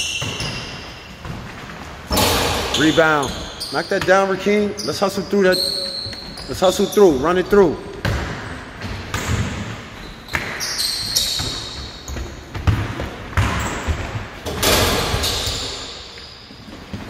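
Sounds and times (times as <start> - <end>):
basketballs bouncing on wooden floor: 0.0 - 17.0
sneakers squeaking on floor: 0.0 - 17.0.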